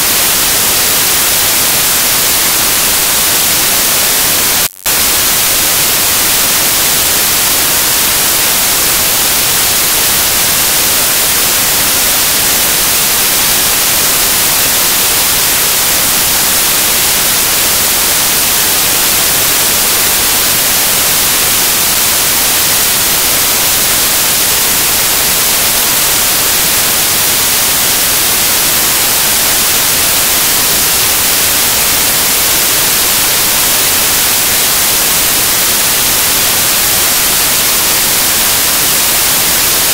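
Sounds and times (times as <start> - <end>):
electronic static hiss: 0.0 - 39.9.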